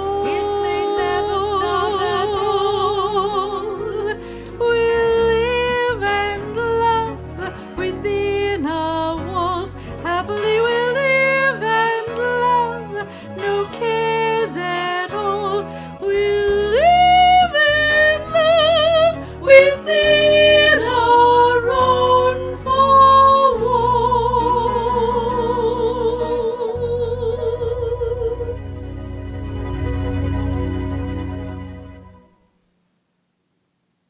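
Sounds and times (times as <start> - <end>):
woman singing a show tune: 0.0 - 28.6
instrumental accompaniment: 0.0 - 32.4.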